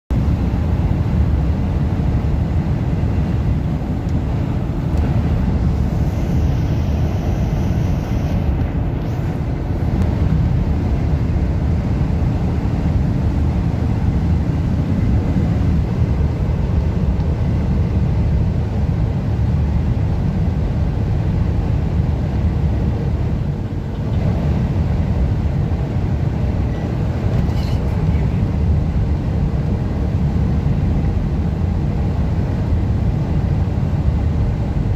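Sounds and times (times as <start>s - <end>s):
car road noise rumble: 0.1s - 34.9s
strong wind buffeting: 0.2s - 34.9s.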